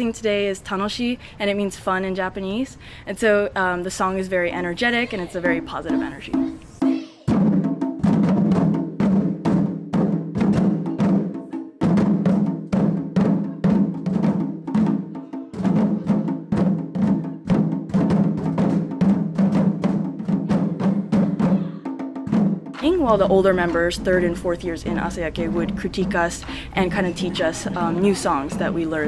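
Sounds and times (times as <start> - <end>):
large drums beating fast: 5.4 - 29.0.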